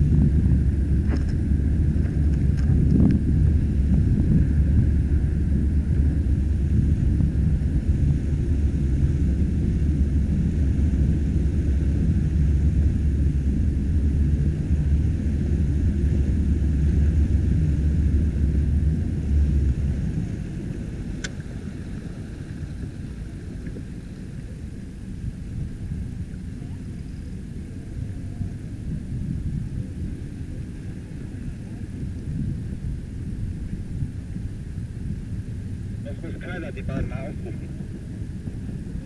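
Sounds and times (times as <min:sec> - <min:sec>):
motorboat engine rumble: 0:00.0 - 0:39.0
wind buffeting microphone: 0:00.0 - 0:39.0.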